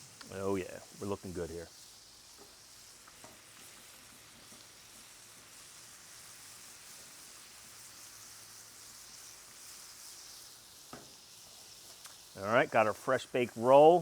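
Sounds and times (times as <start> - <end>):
meat and cheese sizzling on grill: 0.0 - 14.0.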